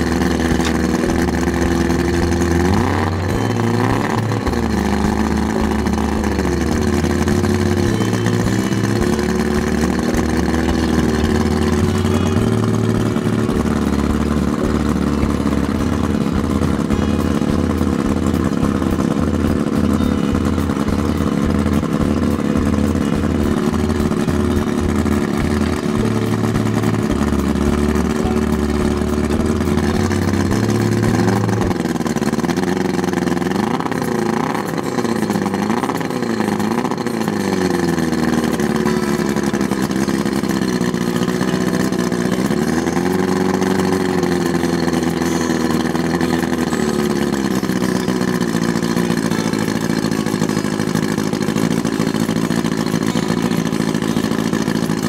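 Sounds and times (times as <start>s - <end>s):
outboard motor fast idle: 0.0s - 55.0s.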